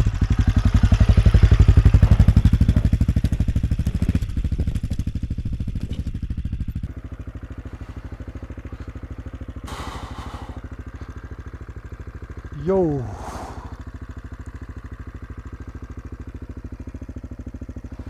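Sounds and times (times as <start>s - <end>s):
single-cylinder engine at low revs: 0.0s - 18.0s.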